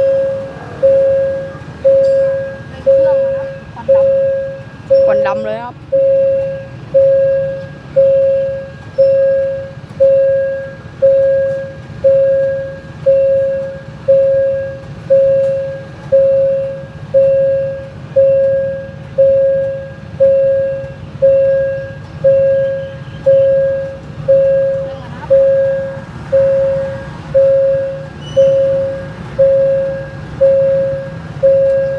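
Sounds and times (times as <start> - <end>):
diesel locomotive engine rumble: 0.0 - 31.9
level crossing bell ringing: 0.0 - 31.9.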